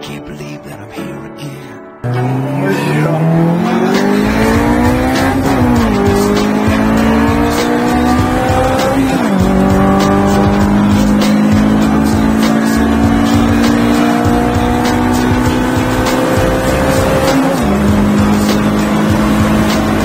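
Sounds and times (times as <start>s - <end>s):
car engine accelerating hard: 2.0s - 20.0s.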